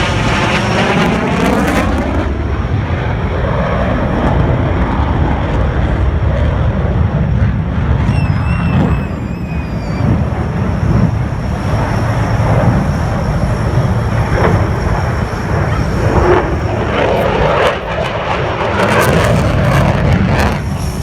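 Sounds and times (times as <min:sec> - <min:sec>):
aircraft engine rumbling: 0:00.0 - 0:21.0.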